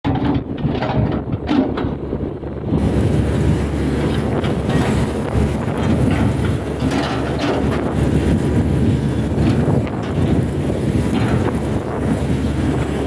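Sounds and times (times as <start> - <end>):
excavator diesel engine rumbling: 0.0 - 13.0
machine knocks and clanks: 0.0 - 13.0.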